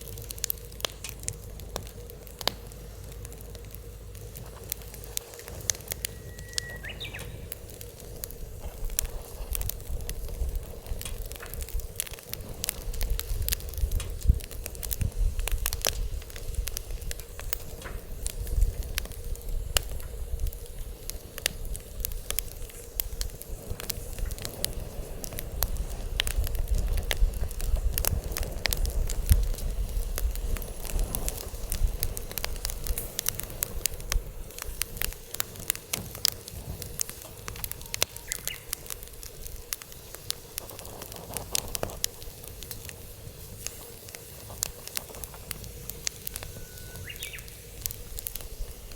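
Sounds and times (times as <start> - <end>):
wood fire crackling and popping: 0.0 - 48.9
wind rumble on microphone: 0.8 - 48.9.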